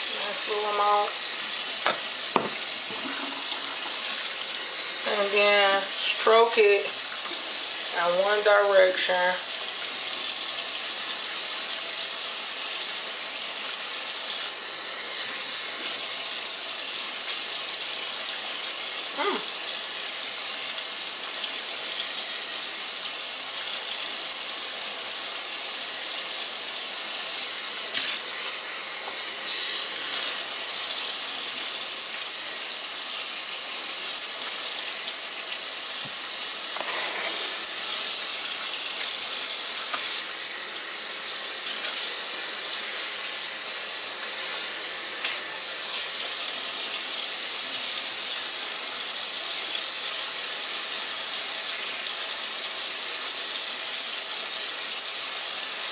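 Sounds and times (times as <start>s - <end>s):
tap water running into sink: 0.0s - 55.9s.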